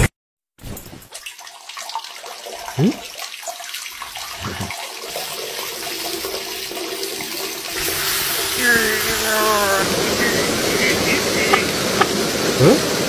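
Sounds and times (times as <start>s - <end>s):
urine splashing into toilet water: 1.2s - 12.1s.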